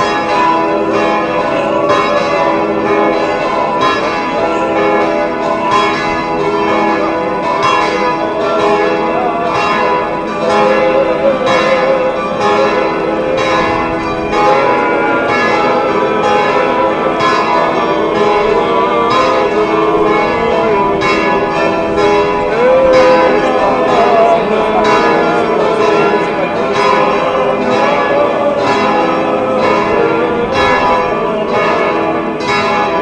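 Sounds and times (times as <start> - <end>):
church bells pealing: 0.0 - 33.0
crowd voices: 0.0 - 33.0.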